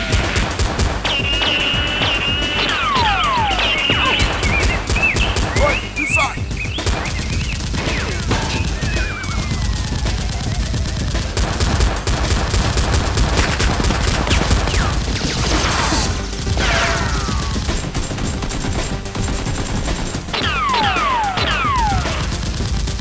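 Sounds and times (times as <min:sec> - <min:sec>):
automatic gunfire sound effects: 0:00.0 - 0:23.0
background music: 0:00.0 - 0:23.0.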